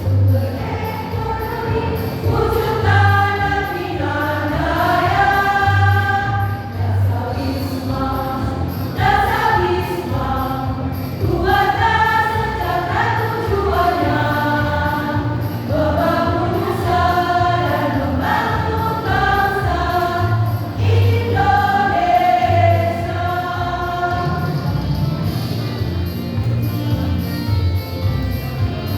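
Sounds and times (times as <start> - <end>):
choir singing: 0.1 - 25.0.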